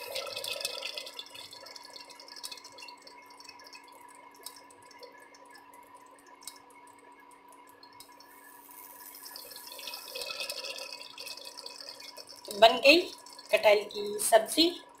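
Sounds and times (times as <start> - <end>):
curry bubbling and popping: 0.0 - 15.0.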